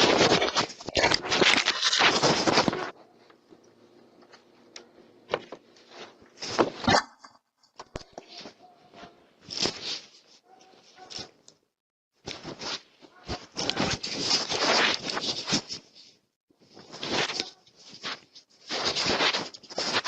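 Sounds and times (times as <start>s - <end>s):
scraping and rustling on microphone: 0.0s - 3.5s, 4.4s - 6.9s, 8.0s - 11.4s, 12.3s - 20.0s.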